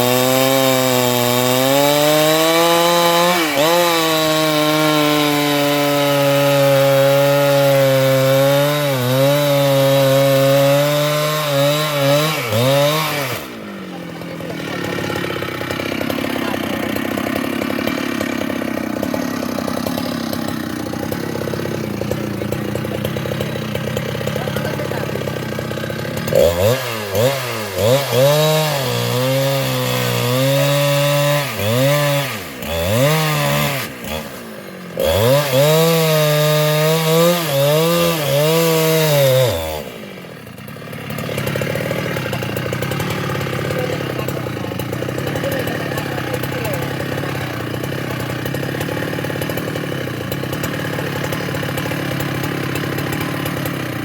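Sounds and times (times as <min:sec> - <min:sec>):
chainsaw idling and cutting: 0:00.0 - 0:54.0.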